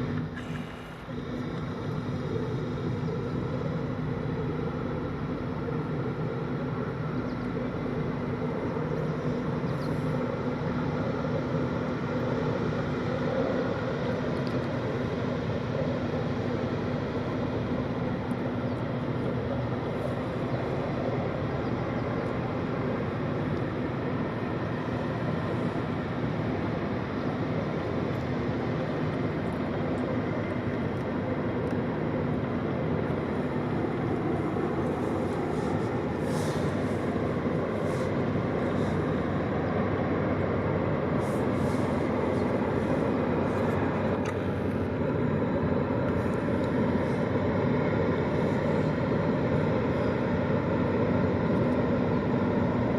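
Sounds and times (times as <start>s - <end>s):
boat diesel engines droning: 0.0s - 52.9s.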